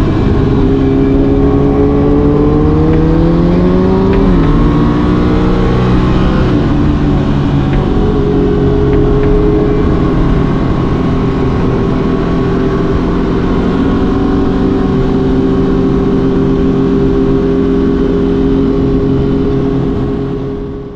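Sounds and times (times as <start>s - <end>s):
motorcycle engine cruising: 0.0s - 20.9s
wind rumble: 0.0s - 20.9s.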